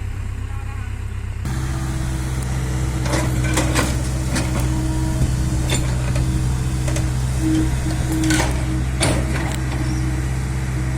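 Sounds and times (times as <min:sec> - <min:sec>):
bulldozer diesel engine running: 0:00.0 - 0:10.9.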